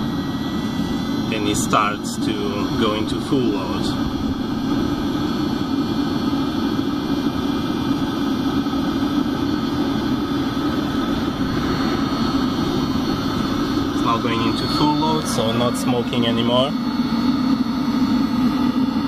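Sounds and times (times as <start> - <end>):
air heater rumbling: 0.0 - 19.0.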